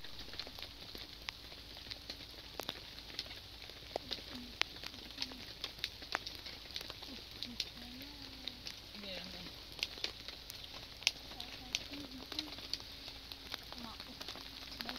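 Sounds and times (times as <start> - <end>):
sharp pops of fire: 0.0 - 14.9
steady hiss of fire: 0.0 - 14.9
wood fire crackling: 0.0 - 14.9.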